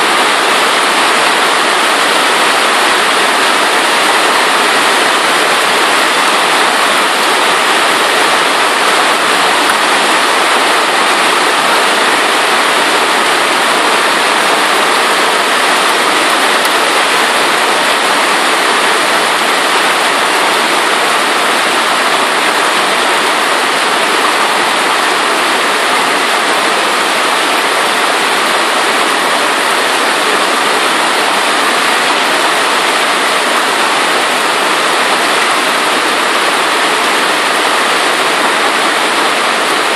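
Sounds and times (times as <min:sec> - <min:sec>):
hail pelting pavement and roofs: 0:00.0 - 0:39.9.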